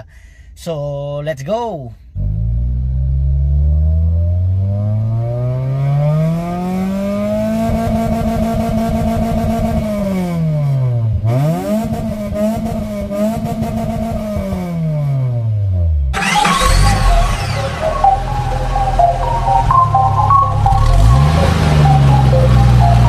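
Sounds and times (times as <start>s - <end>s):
car engine revving: 2.2s - 23.0s.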